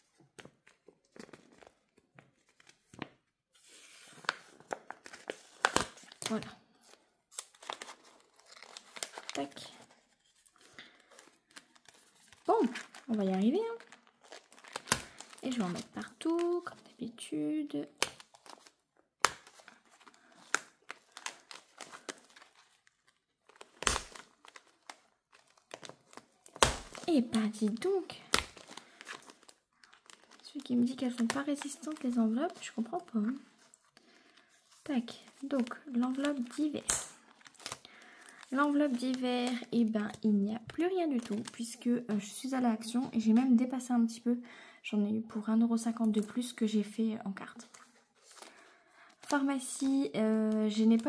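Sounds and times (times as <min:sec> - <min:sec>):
paper envelopes rustling: 0:00.0 - 0:17.0, 0:18.0 - 0:40.2, 0:40.8 - 0:41.8, 0:47.6 - 0:51.0.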